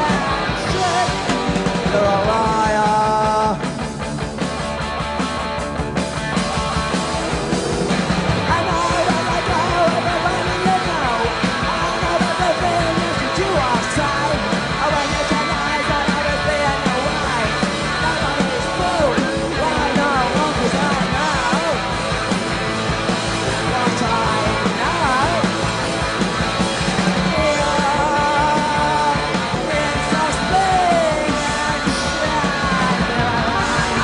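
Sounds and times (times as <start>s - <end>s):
person singing: 0.0s - 3.7s, 6.7s - 21.9s, 23.5s - 25.6s, 27.2s - 34.0s
bass guitar: 0.0s - 34.0s
distorted electric guitar: 0.0s - 34.0s
drums: 0.0s - 34.0s.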